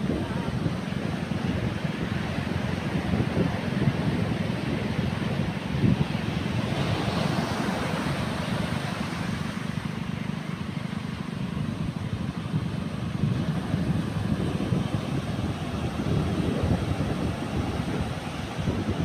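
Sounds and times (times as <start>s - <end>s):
wind blowing on microphone: 0.0s - 10.1s, 11.0s - 19.0s
waves washing: 0.0s - 19.0s.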